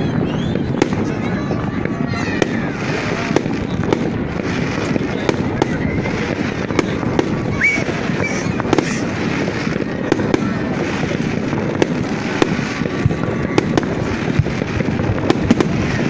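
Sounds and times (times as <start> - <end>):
firework pops: 0.0 - 16.0
fireworks bursting and crackling: 0.0 - 16.0
rising firework whistle: 0.0 - 16.0.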